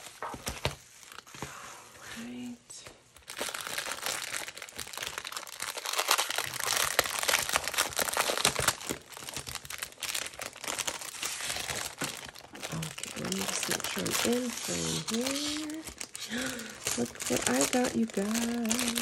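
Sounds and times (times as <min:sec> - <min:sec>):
plastic bag crinkling: 0:03.1 - 0:19.0.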